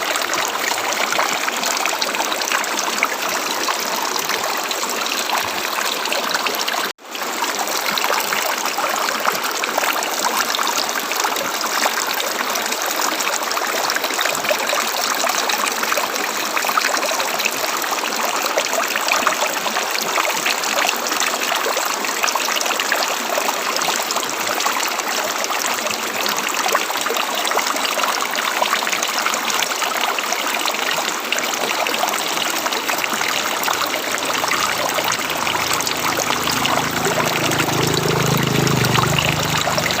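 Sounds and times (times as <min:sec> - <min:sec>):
river water flowing: 0:00.0 - 0:40.0.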